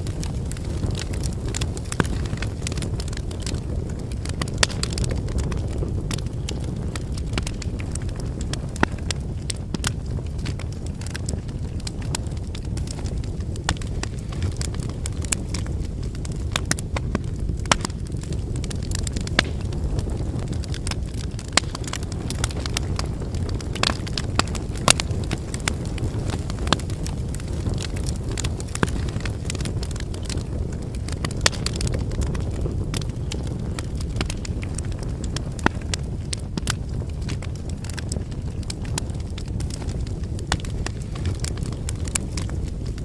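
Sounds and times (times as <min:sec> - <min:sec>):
campfire crackling and popping: 0:00.0 - 0:43.0
low fire rumble: 0:00.0 - 0:43.0.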